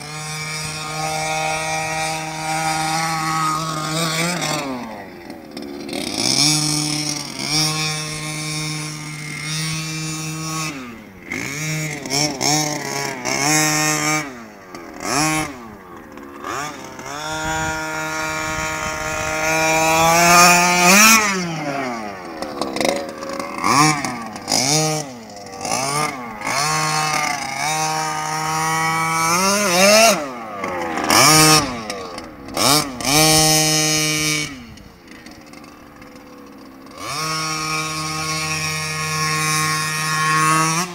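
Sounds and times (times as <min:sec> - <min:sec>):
small two-stroke engine revving: 0:00.0 - 0:40.9.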